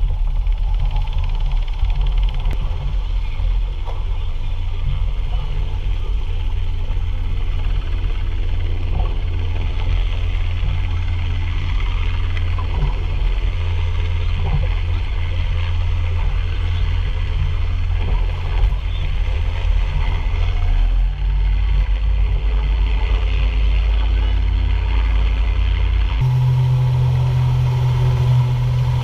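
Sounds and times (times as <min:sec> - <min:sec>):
boat engine droning: 0:00.0 - 0:29.0
wind: 0:00.0 - 0:29.0.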